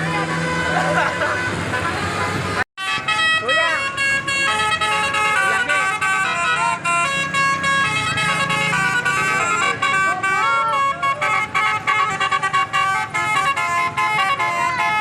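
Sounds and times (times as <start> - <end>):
bus horn playing a melody: 0.0 - 15.0.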